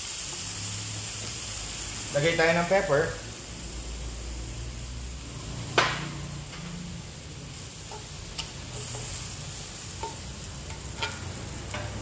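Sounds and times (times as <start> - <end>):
sauce simmering and sizzling: 0.0 - 12.0.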